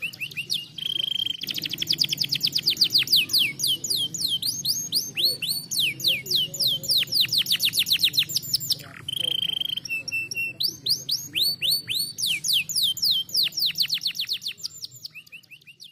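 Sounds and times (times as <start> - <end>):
canary singing: 0.0 - 15.9.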